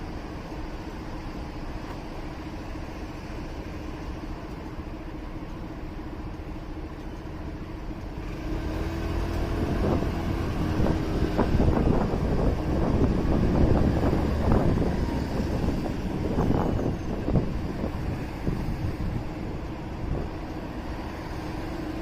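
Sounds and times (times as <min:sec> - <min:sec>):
road rumble: 0:00.0 - 0:22.0.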